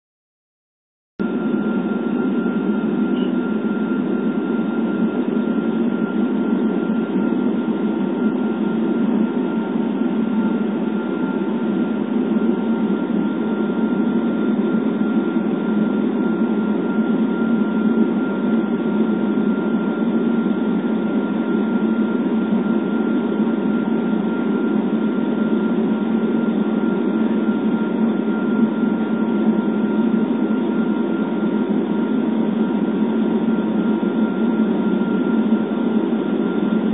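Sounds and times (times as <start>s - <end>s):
airliner cabin engine hum: 1.2s - 36.9s
faint high whine: 1.2s - 36.9s.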